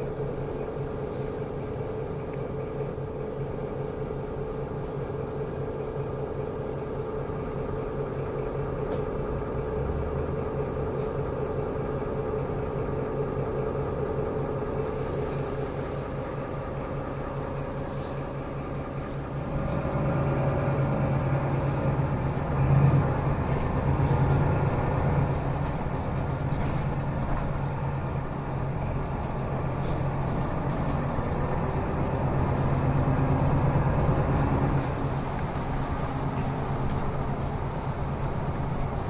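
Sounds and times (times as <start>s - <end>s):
bus engine hum and road noise: 0.0s - 39.0s.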